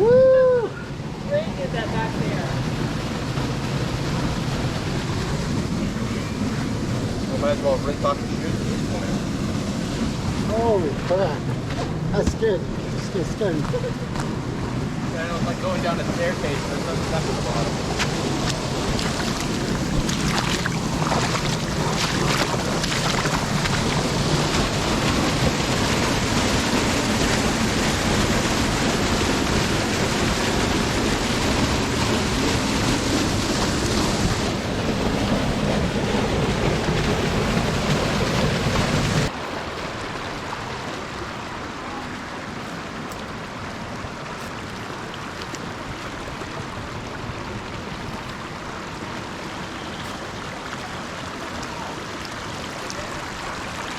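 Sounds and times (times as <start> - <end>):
creek water rushing: 0.0 - 53.9.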